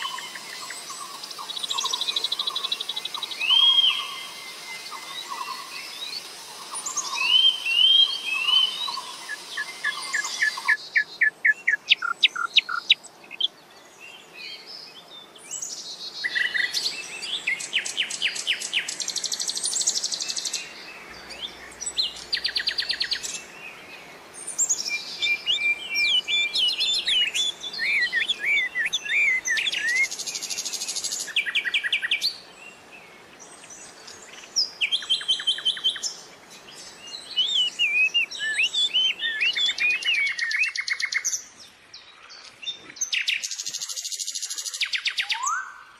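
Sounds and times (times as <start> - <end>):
nightingale singing: 0.0 - 45.9.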